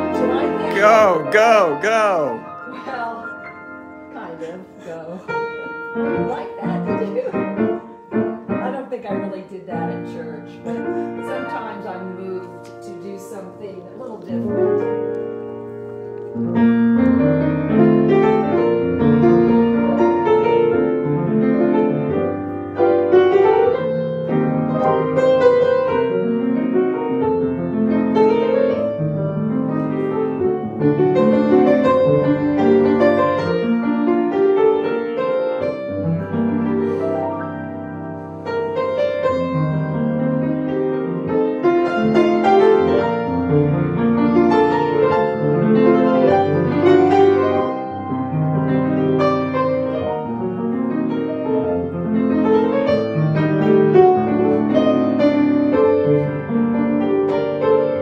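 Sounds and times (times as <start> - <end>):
solo piano playing a hymn: 0.0 - 58.0.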